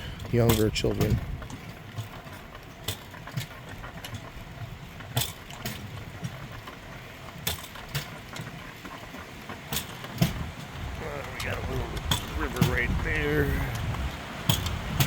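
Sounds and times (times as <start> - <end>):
steel wheels rumbling on rails: 0.0 - 15.0
wheels clicking over rail joints: 0.0 - 15.0.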